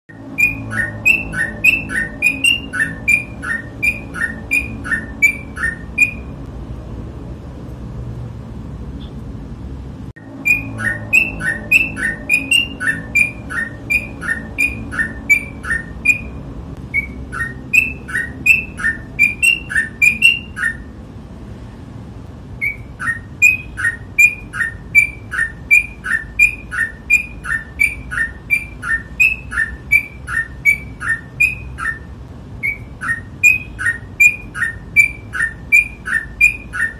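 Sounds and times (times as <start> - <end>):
bulbul singing: 0.1 - 6.4, 10.2 - 21.0, 22.6 - 36.9.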